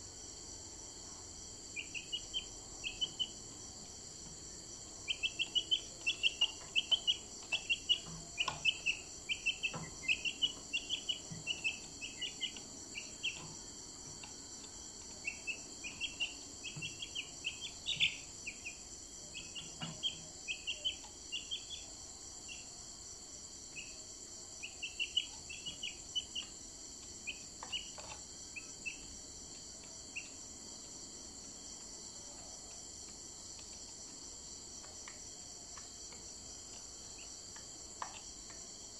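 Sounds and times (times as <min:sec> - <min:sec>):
crickets droning: 0:00.0 - 0:38.9.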